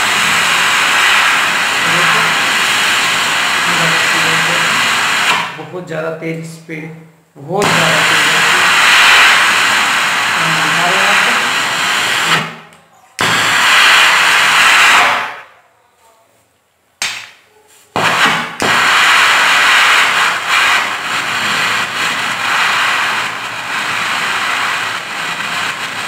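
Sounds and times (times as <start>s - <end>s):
gas torch hissing: 0.0s - 5.7s, 7.6s - 15.5s, 17.9s - 26.0s.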